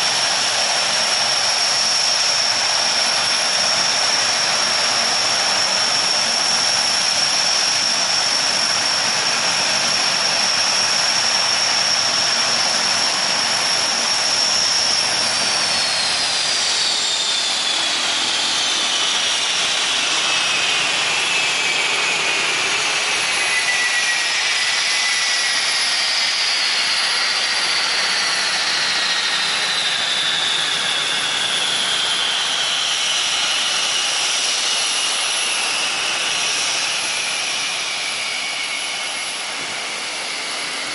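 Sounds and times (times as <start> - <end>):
turboprop engines running: 0.0 - 40.9.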